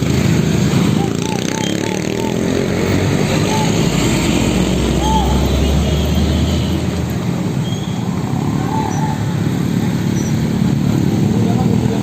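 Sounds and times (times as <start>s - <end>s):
road noise: 0.0s - 12.0s
truck engines running: 0.0s - 12.0s.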